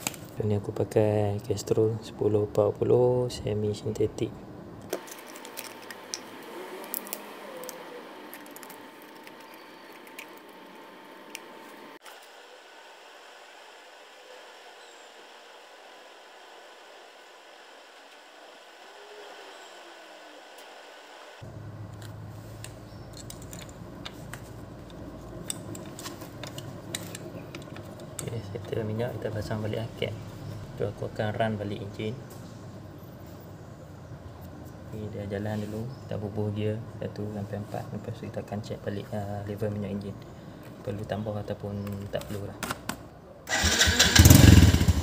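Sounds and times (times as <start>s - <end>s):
low steady hum: 0.0s - 43.5s.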